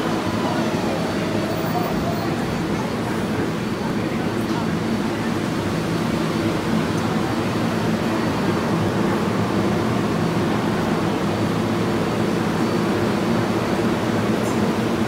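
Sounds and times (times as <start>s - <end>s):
subway train humming: 0.0s - 15.0s.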